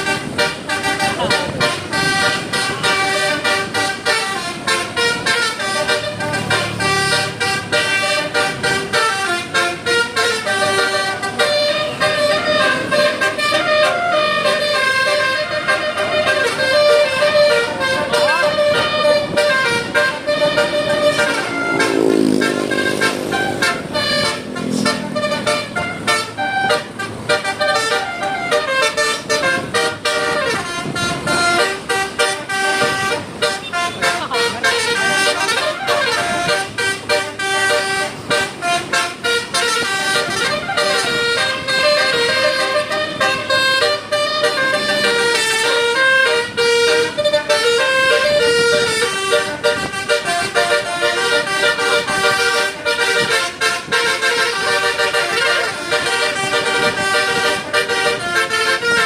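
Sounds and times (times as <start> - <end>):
multi-tone air horn melody: 0.0 - 59.0.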